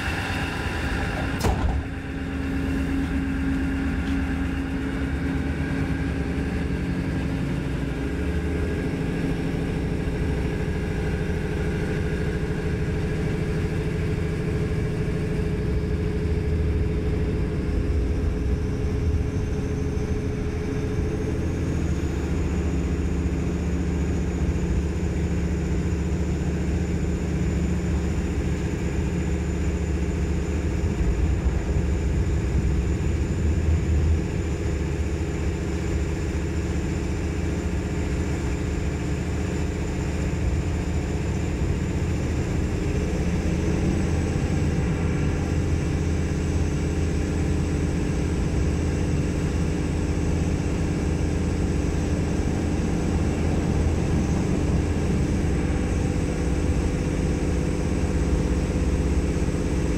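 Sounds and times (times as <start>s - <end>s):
diesel engine drone and whine: 0.0s - 59.9s.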